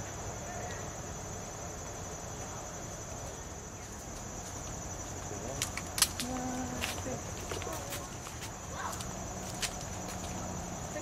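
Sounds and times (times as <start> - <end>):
faint outdoor murmur: 0.0 - 11.0
insects chirping: 0.0 - 11.0.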